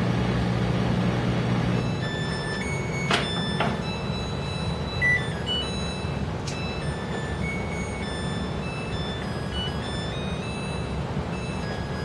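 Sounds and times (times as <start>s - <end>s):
washing machine motor hum: 0.0s - 12.0s
electronic beeping melody: 1.8s - 12.0s.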